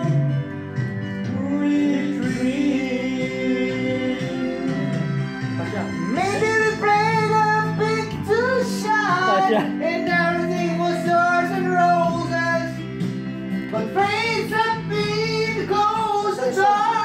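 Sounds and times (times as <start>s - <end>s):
karaoke backing track: 0.0s - 17.0s
person singing into a microphone: 1.2s - 5.4s, 6.0s - 13.0s, 13.7s - 17.0s.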